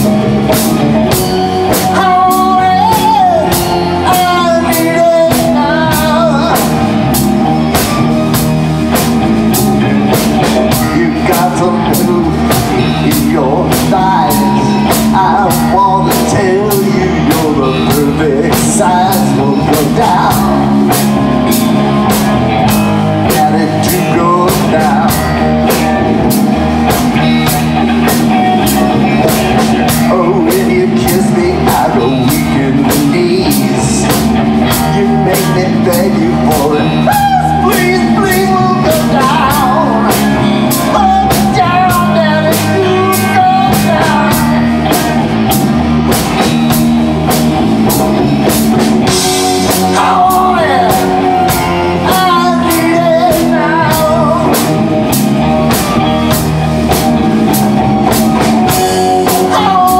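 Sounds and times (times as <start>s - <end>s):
singer: 0.0s - 8.5s, 10.6s - 26.4s, 27.2s - 46.6s, 49.0s - 59.9s
drum kit beat: 0.0s - 59.9s
electric bass: 0.0s - 59.9s
electric guitar: 0.0s - 59.9s.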